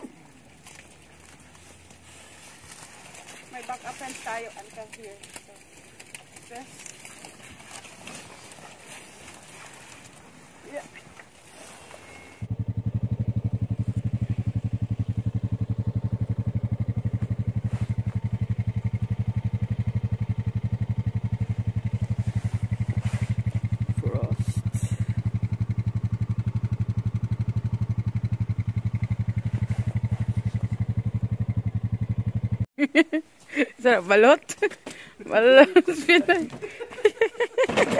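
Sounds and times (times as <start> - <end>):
small engine idling: 0.0 - 32.7.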